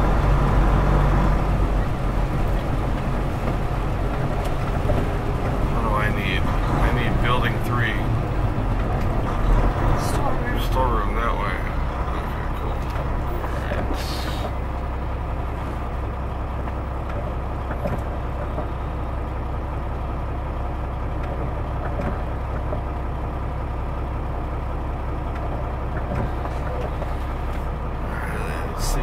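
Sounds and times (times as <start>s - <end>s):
diesel truck engine idling: 0.0s - 29.0s.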